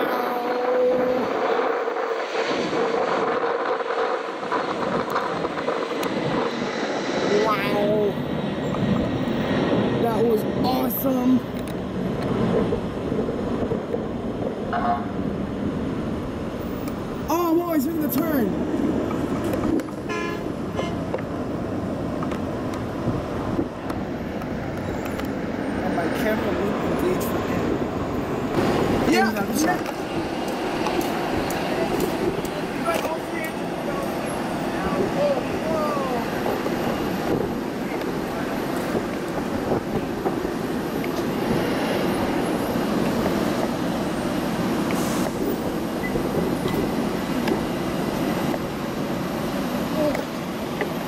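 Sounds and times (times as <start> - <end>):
jet engines at takeoff: 0.0 - 51.0.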